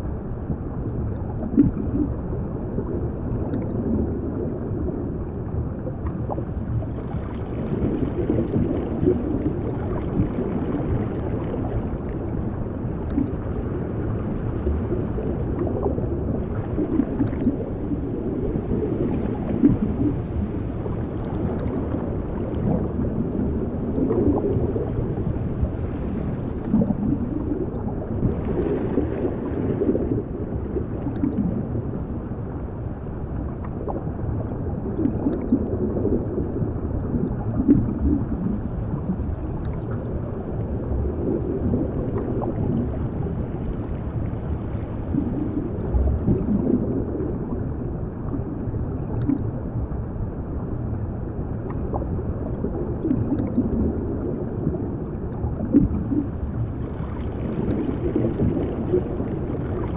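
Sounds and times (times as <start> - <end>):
underwater bubbling and gurgling: 0.0 - 59.9.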